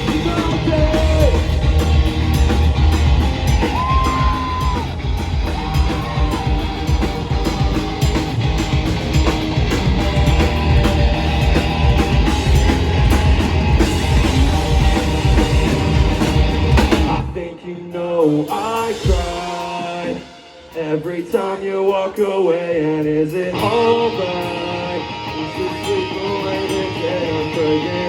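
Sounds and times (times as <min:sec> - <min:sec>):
live rock band playing: 0:00.0 - 0:17.4, 0:18.4 - 0:21.0, 0:23.6 - 0:28.0.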